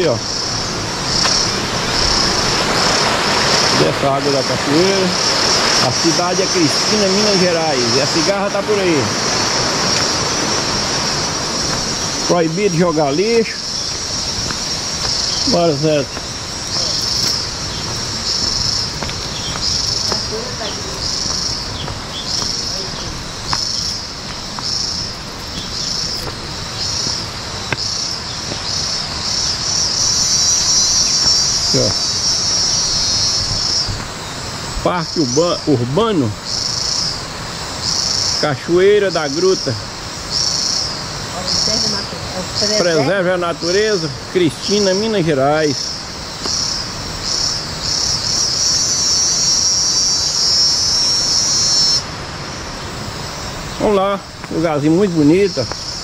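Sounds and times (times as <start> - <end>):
cicada buzzing: 0.0 - 56.0.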